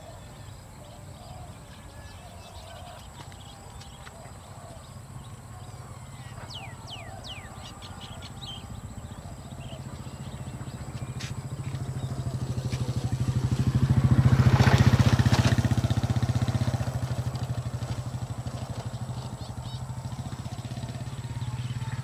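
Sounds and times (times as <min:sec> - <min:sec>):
vehicle engine passing by: 0:00.0 - 0:22.0.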